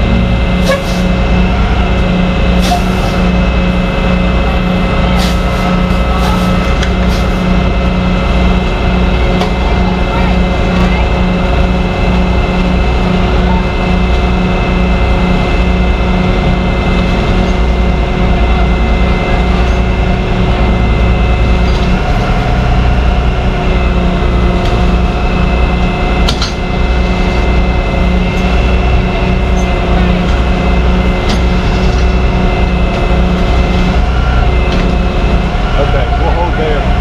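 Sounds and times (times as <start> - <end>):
truck engine running under load: 0.0 - 37.0.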